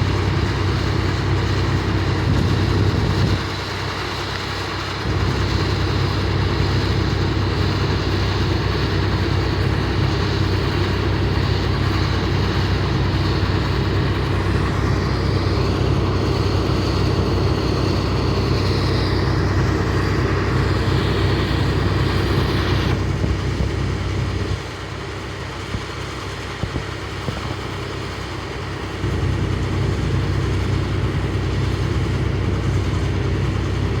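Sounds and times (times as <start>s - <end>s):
combine harvester engine drone: 0.0s - 34.0s.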